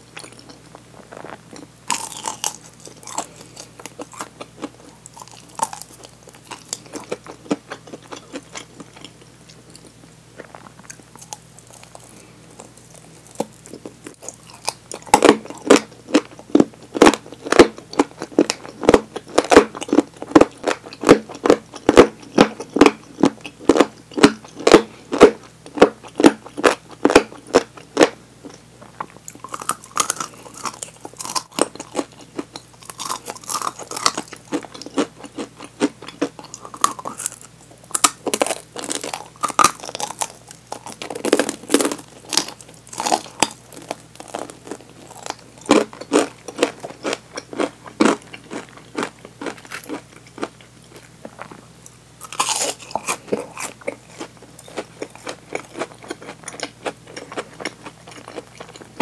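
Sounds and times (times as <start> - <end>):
crunching fried chicken: 0.0 - 59.0.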